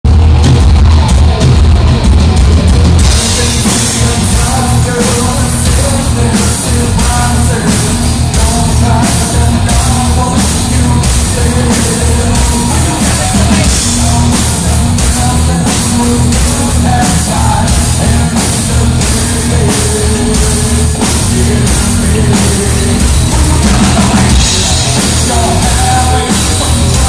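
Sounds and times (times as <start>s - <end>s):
bass guitar: 0.0s - 27.0s
drums and cymbals beat: 0.0s - 27.0s
electric guitar: 0.1s - 27.0s.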